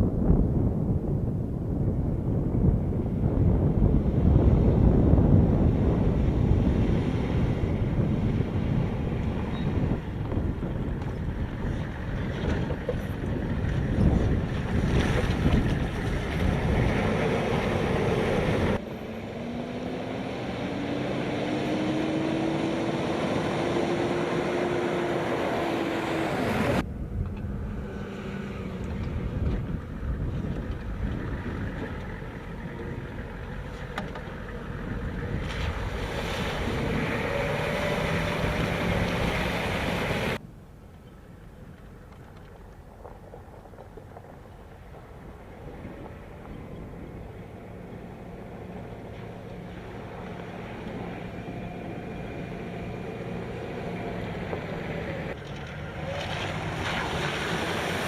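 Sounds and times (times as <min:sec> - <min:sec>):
wind buffeting microphone: 0:00.0 - 0:18.8, 0:19.4 - 0:58.0
vehicle engine: 0:00.0 - 0:40.4, 0:41.0 - 0:58.0.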